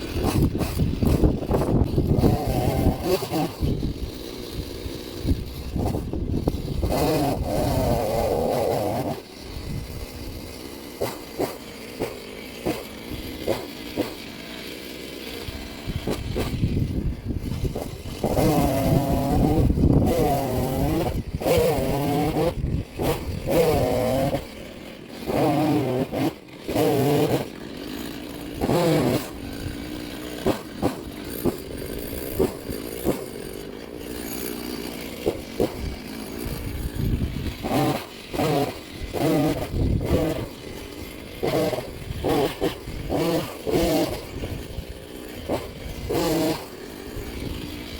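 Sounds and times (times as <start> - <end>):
chainsaw idling and revving: 0.0 - 47.9.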